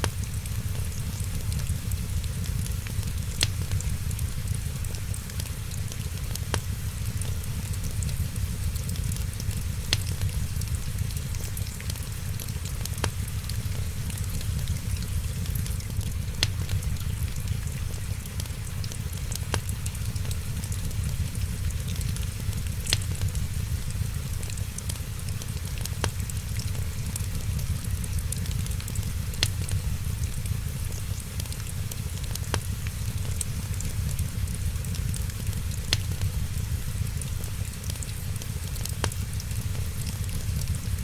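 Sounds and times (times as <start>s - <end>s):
rain hissing: 0.0s - 41.0s
wood fire crackling and popping: 0.0s - 41.0s.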